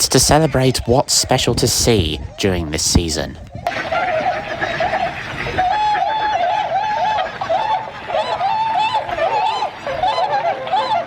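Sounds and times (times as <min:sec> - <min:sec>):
swans calling: 0:00.0 - 0:03.0, 0:03.6 - 0:11.0.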